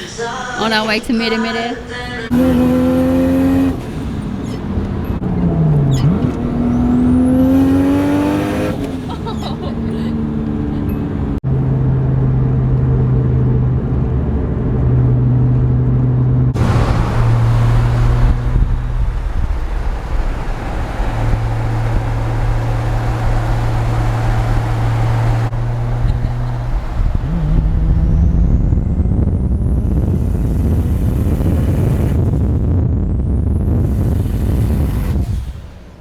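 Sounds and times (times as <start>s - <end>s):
car engine droning: 0.0s - 36.0s
road and wind noise: 0.0s - 36.0s.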